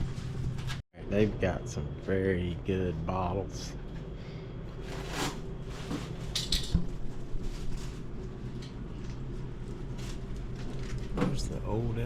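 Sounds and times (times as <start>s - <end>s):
low hum of shop: 0.0s - 12.0s.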